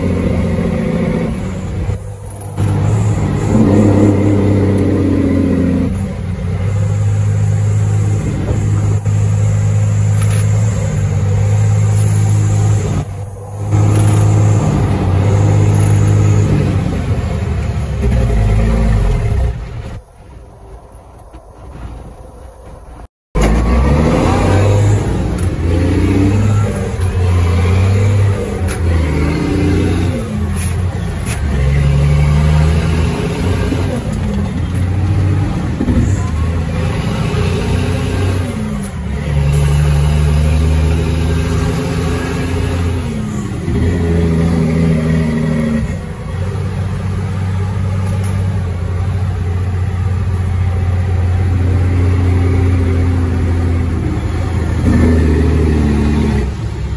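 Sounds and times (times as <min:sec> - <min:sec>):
diesel truck engine under load: 0:00.0 - 0:56.9.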